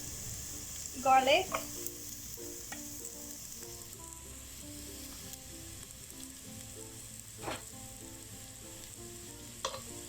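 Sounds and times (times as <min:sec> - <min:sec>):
light plucked background music: 0:00.0 - 0:10.0
vegetables sizzling in oil: 0:00.0 - 0:10.0.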